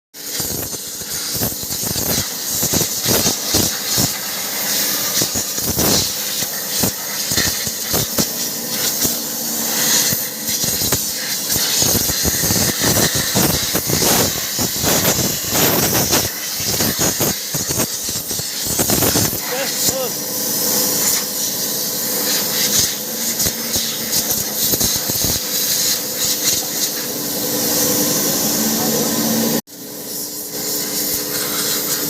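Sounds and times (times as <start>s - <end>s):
compressed air blow gun hissing: 0.2s - 28.5s, 30.0s - 32.0s.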